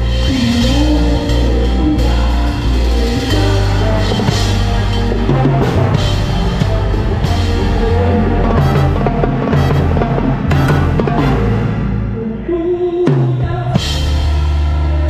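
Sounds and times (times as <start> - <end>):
salsa band playing: 0.0 - 12.2.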